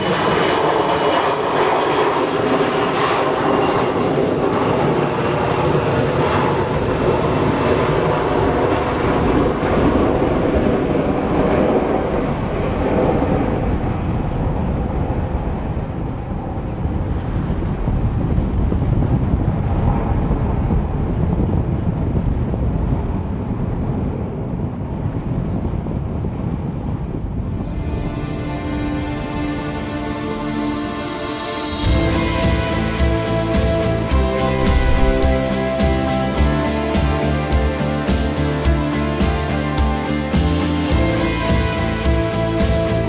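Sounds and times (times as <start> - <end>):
jet engines roaring on take-off: 0.0 - 25.0, 26.2 - 41.4.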